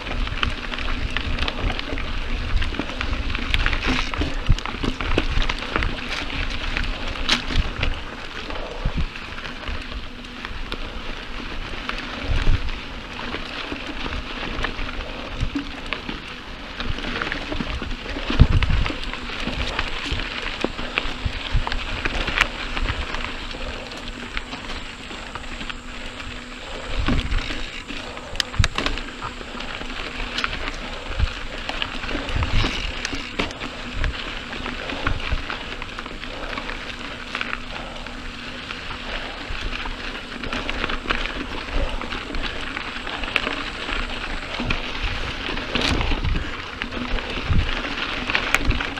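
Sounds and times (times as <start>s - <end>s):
bike tyres crackling over gravel: 0.0s - 48.9s.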